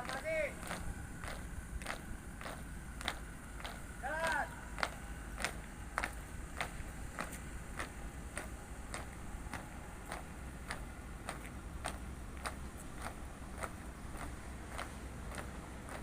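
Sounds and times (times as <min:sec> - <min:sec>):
marching footsteps in step: 0:00.0 - 0:16.0.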